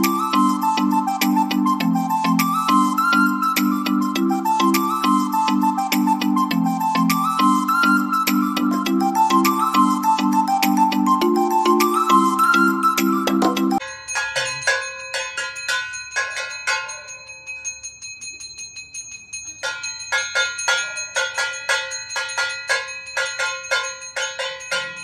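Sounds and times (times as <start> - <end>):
handheld bell ringing rapidly: 0.0 - 25.0.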